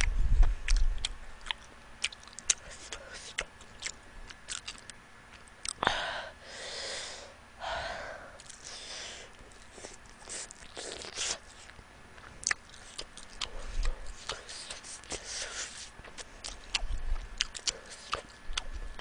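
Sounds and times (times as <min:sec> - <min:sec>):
person chewing with soft crunching: 0:00.0 - 0:05.8, 0:08.3 - 0:19.0.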